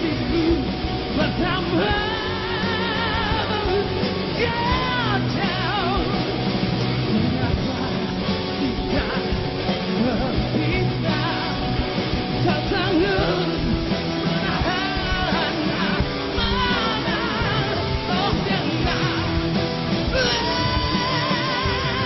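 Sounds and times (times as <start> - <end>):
bending lead melody: 0.0 - 22.0
rock band playing: 0.0 - 22.0.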